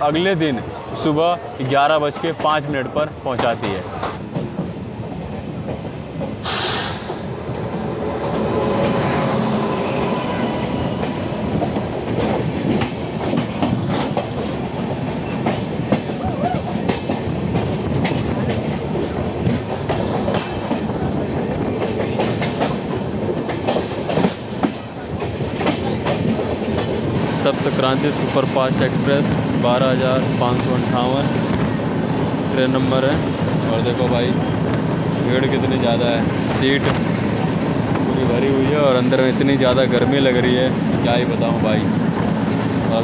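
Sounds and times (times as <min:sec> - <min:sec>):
train wheels clattering over joints: 0:01.7 - 0:43.0.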